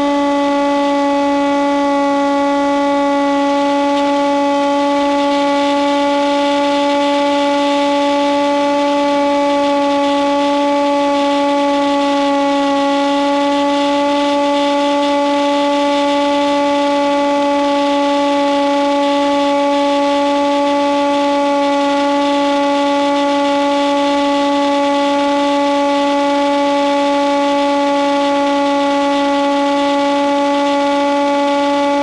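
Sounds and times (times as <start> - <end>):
model plane electric motor whining: 0.0 - 32.0.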